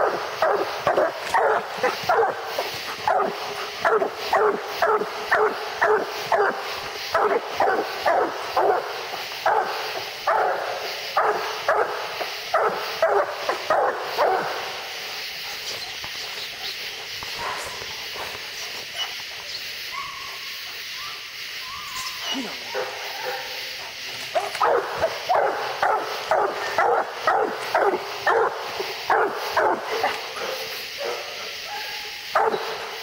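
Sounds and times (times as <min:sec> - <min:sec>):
hounds barking: 0:00.0 - 0:33.0
steady high hiss: 0:00.0 - 0:33.0.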